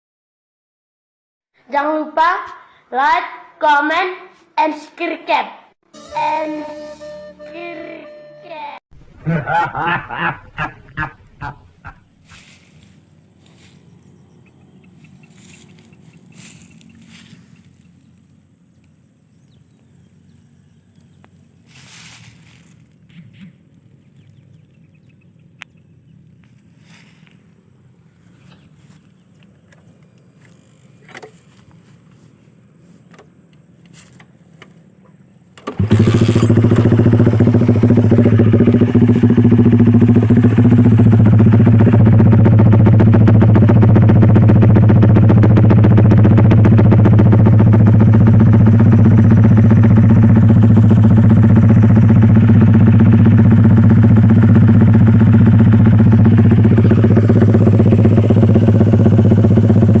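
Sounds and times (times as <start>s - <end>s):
motorcycle engine starting and idling: 11.2s - 60.0s.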